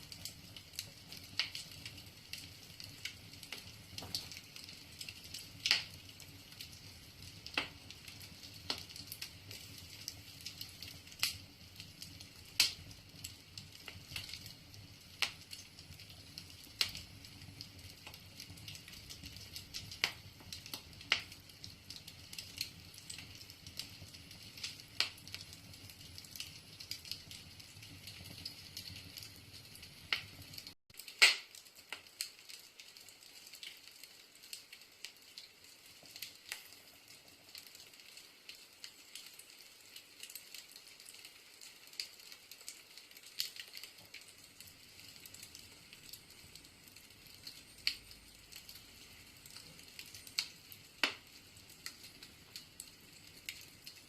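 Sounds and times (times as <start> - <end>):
fire crackling and popping: 0.0 - 54.0
wood fire hissing: 0.0 - 54.0.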